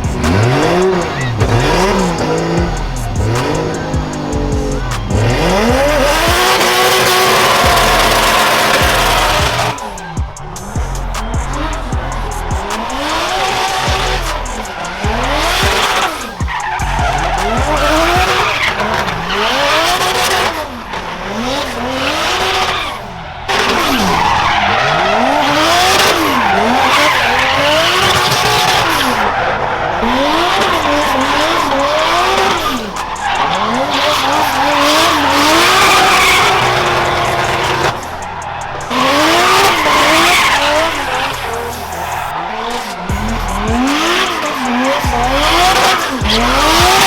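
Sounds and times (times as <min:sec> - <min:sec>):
car engine revving: 0:00.0 - 0:47.0
tyres squealing: 0:00.0 - 0:47.0.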